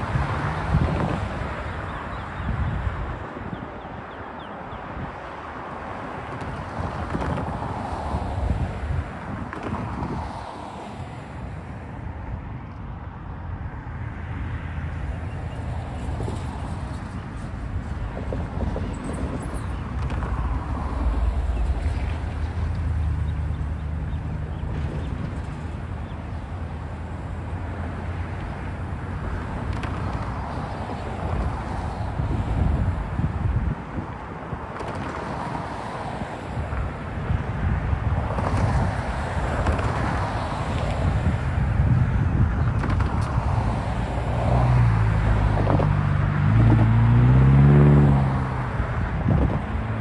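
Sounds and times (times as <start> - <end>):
wind buffeting microphone: 0.0 - 12.7, 13.4 - 50.0
cars passing over rail crossing: 0.0 - 50.0
engine and tyre noise: 0.0 - 50.0.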